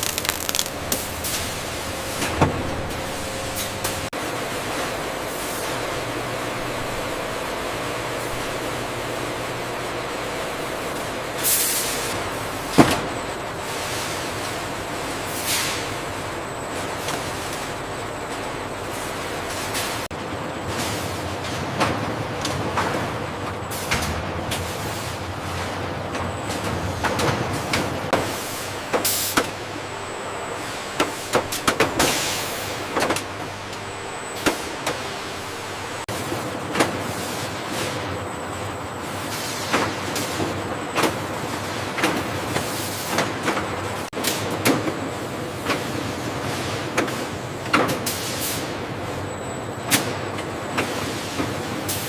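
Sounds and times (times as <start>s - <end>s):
bottling machinery noise: 0.0s - 52.0s.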